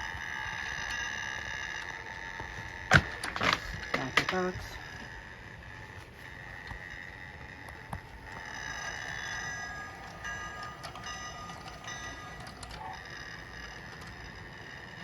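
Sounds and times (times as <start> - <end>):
toy train motor whine: 0.0 - 15.0
wheels clicking on track: 0.0 - 15.0.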